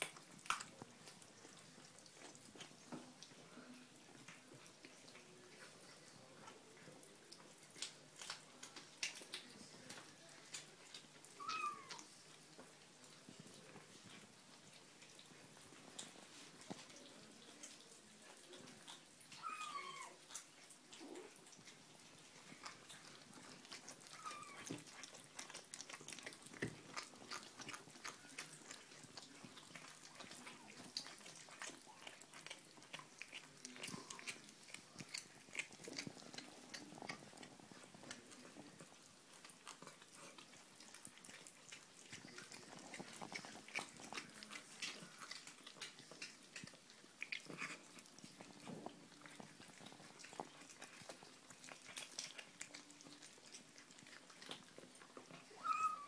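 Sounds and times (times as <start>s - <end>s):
kittens chewing meat: 0.0s - 56.0s.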